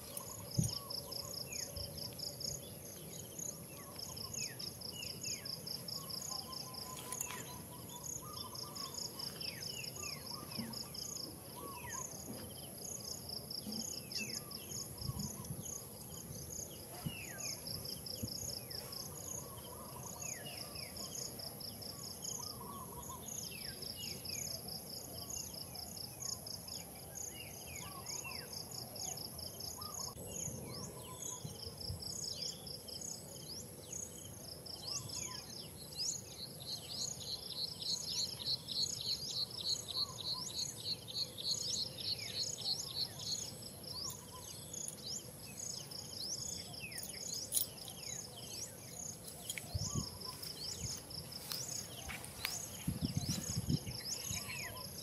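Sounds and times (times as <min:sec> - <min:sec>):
cricket-like pulsed trills: 0:00.0 - 0:55.0
high-pitched insect whine: 0:00.0 - 0:55.0.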